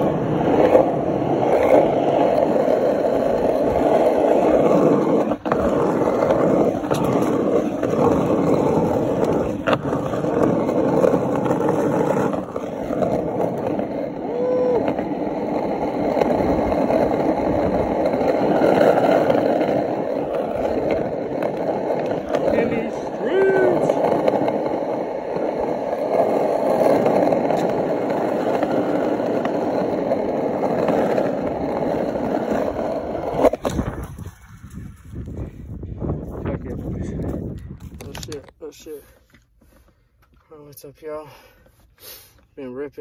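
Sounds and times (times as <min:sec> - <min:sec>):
skateboard wheels rolling on asphalt: 0:00.0 - 0:43.0.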